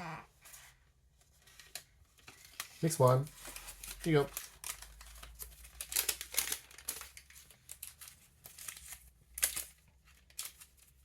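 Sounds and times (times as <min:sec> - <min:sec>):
wrapper torn and crinkled: 0:01.4 - 0:11.0.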